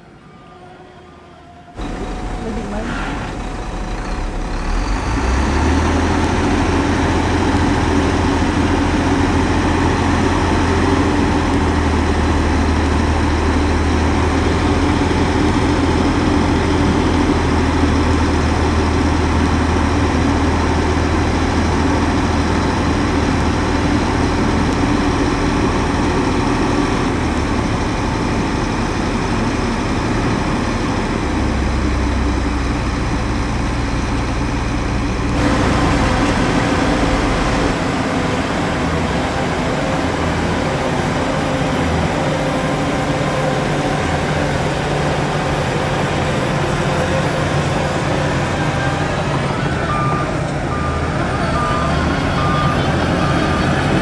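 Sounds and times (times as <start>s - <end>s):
heavy diesel engine running: 1.8s - 54.0s.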